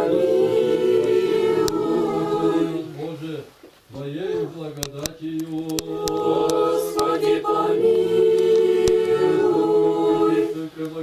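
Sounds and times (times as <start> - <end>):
congregation chanting: 0.0 - 3.4, 5.2 - 11.0.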